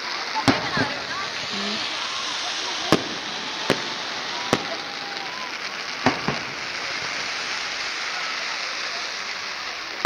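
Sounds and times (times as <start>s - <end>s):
firework bangs: 0.0s - 10.0s
firework sparks hissing: 0.0s - 10.0s.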